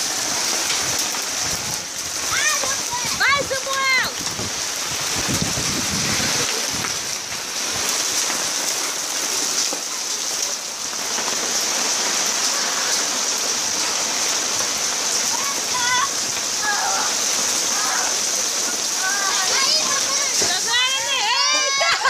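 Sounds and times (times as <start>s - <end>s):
hail and rain on concrete: 0.0s - 22.0s.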